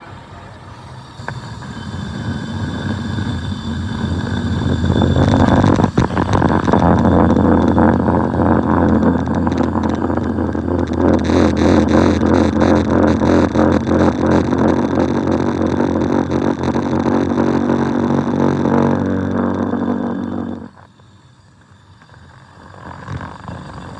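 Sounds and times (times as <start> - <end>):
lathe motor hum: 0.0 - 23.9
rough machining noise: 0.0 - 23.9.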